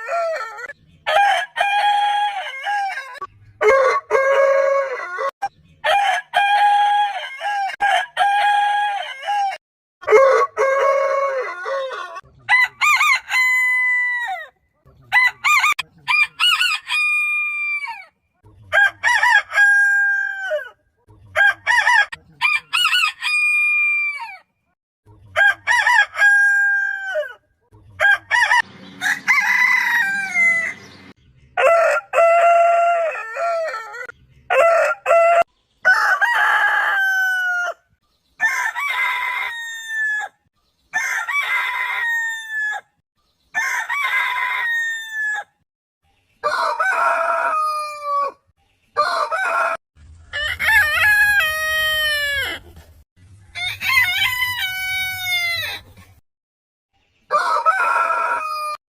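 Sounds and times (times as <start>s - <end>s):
roosters crowing: 0.0s - 24.5s, 25.3s - 27.4s, 28.0s - 45.6s, 46.4s - 48.4s, 49.0s - 52.8s, 53.5s - 56.0s, 57.3s - 58.8s.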